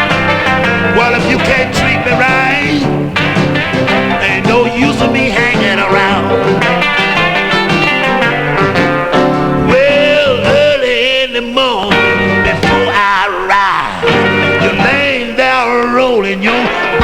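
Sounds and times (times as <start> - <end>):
electric blues band: 0.0 - 17.0
wavering lead guitar line: 0.0 - 17.0.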